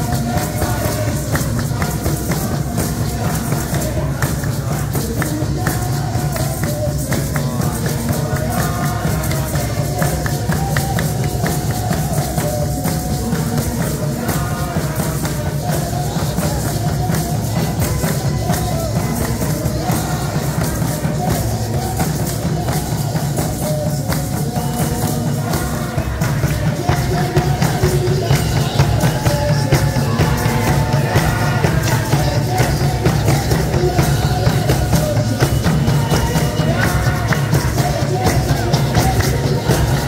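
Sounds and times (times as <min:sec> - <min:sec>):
conga drums: 0:00.0 - 0:40.0
congregation singing gospel chorus: 0:00.0 - 0:40.0
rhythmic hand clapping: 0:00.0 - 0:40.0.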